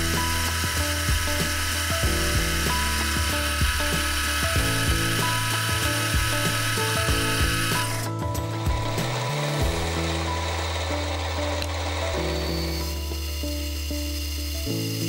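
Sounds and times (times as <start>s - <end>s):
cutting hiss: 0.0s - 15.0s
lathe machine hum: 0.0s - 15.0s.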